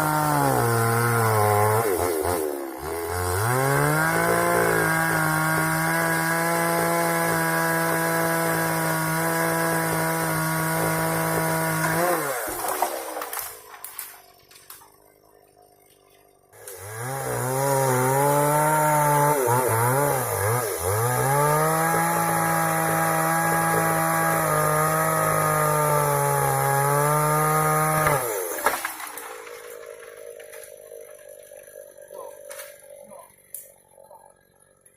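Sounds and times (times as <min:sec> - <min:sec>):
chainsaw engine revving: 0:00.0 - 0:15.2, 0:15.8 - 0:34.9.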